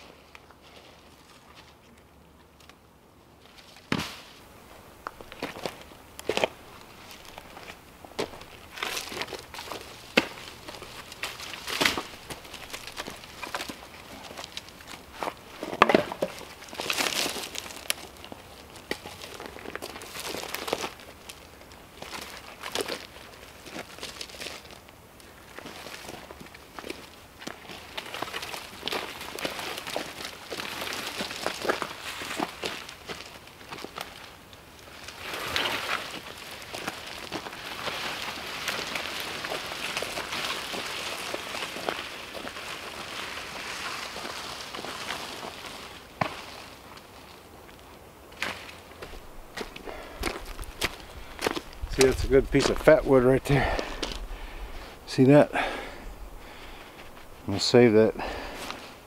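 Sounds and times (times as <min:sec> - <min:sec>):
branches dragged over gravel: 0:03.4 - 0:59.0.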